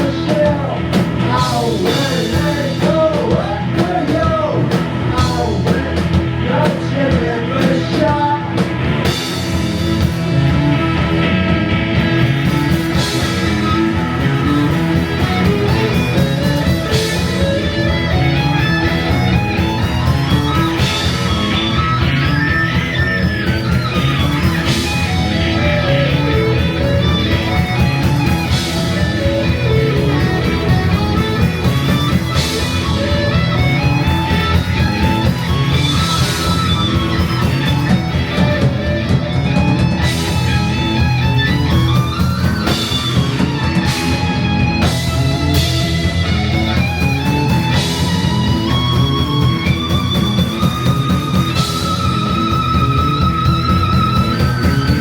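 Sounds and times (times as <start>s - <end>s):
lead guitar melody: 0.0s - 55.0s
rock band playing live: 0.0s - 55.0s.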